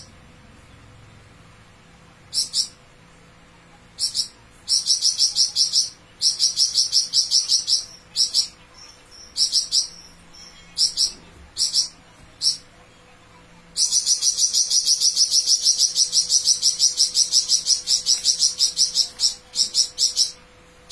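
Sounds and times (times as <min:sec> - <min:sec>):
songbird rattling song: 0:02.2 - 0:03.0, 0:03.9 - 0:12.7, 0:13.7 - 0:20.9.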